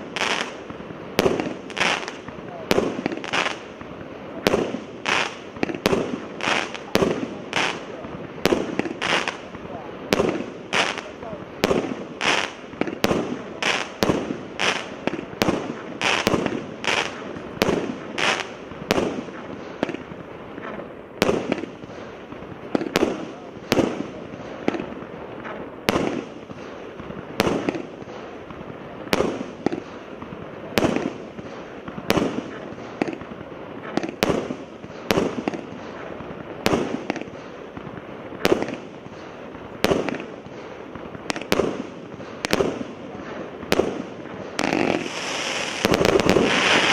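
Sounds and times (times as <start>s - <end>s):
fireworks firing sharp reports: 0.0s - 46.9s.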